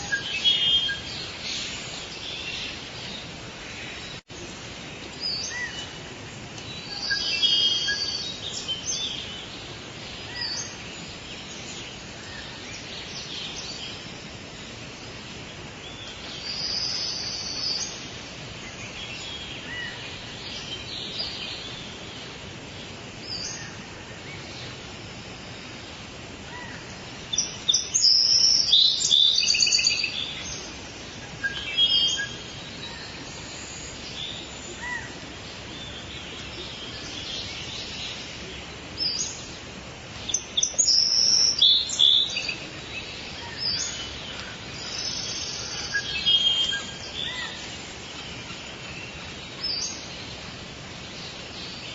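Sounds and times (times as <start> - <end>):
background hiss: 0.0 - 51.9
birds chirping: 0.0 - 51.9.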